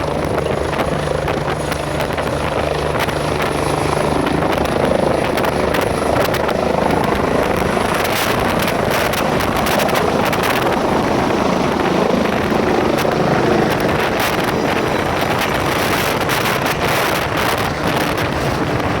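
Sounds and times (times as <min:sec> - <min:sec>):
helicopter rotor chopping: 0:00.0 - 0:19.0.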